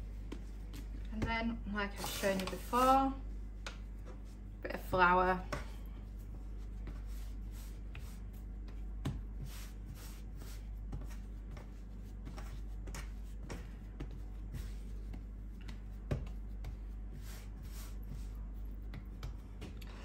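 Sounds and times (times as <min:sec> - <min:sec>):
hands kneading dough: 0:00.0 - 0:20.0.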